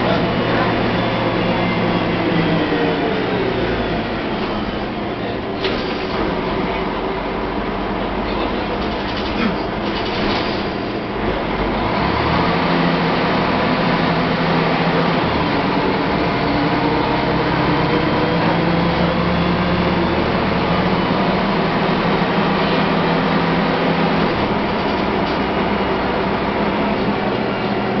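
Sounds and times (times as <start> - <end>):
bus diesel engine humming: 0.0 - 28.0.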